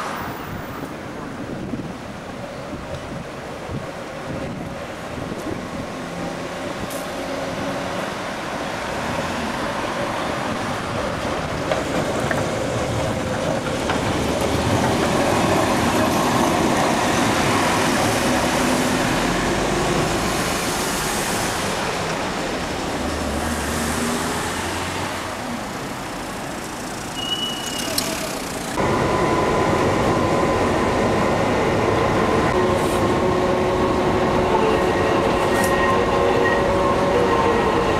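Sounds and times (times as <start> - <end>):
train passing by: 0.0 - 37.9.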